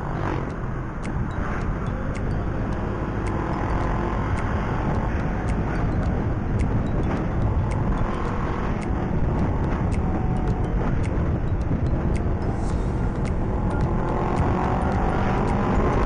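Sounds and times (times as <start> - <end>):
faint regular ticks: 0.0 - 16.0
wind rumble: 0.0 - 16.0.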